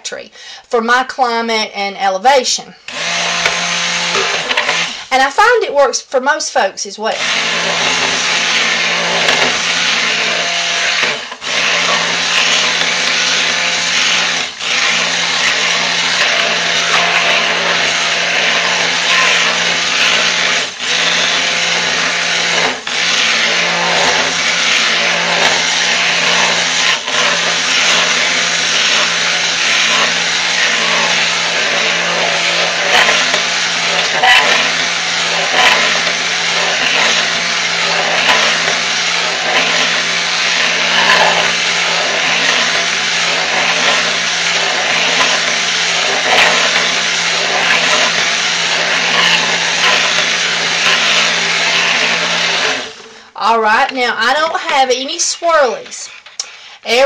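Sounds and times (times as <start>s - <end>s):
stick blender motor running: 2.8s - 5.7s, 7.1s - 53.6s, 54.3s - 57.0s.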